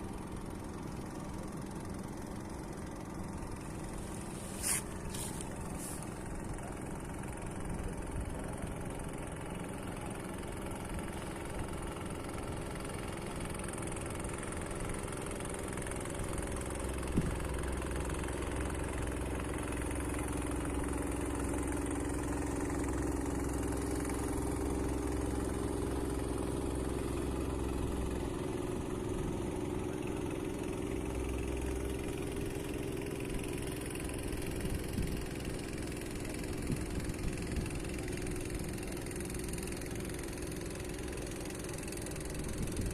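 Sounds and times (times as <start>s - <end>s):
boat engine humming: 0.0s - 42.9s.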